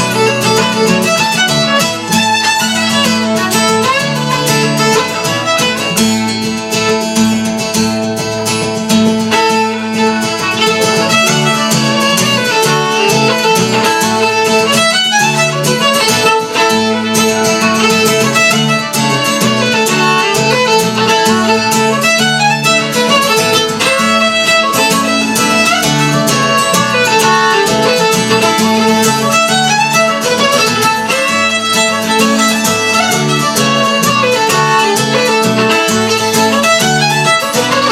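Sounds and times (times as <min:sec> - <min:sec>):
acoustic guitar: 0:00.0 - 0:37.9
fiddle playing a tune: 0:00.0 - 0:37.9.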